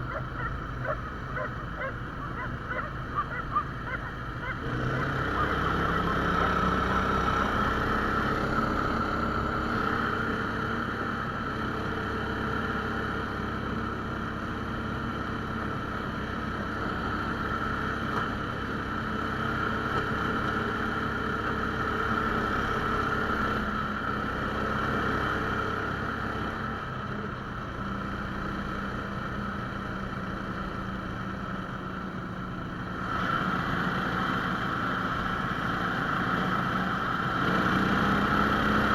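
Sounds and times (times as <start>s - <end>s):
single-cylinder engine droning: 0.0s - 38.9s.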